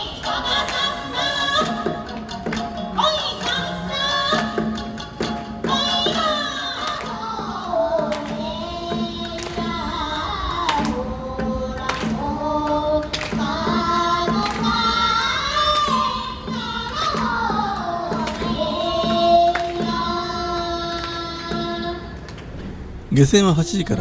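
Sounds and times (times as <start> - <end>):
girls singing through microphones: 0.0 - 22.5.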